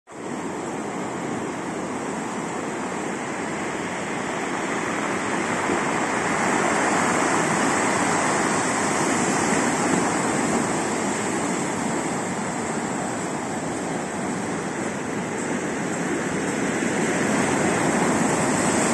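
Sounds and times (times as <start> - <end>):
heavy waves breaking: 0.1 - 18.9.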